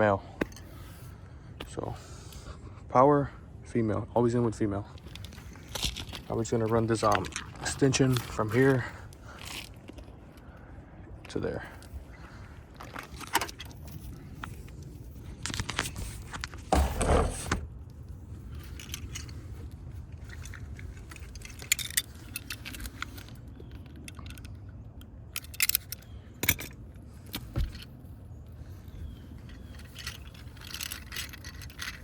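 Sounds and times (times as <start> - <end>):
cord handling clicks and rattling: 4.8 - 10.6, 11.2 - 32.0.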